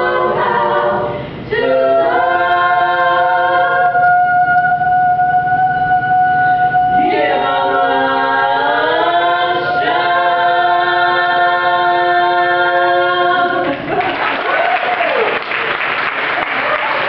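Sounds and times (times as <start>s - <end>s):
a cappella choir singing: 0.0s - 13.9s.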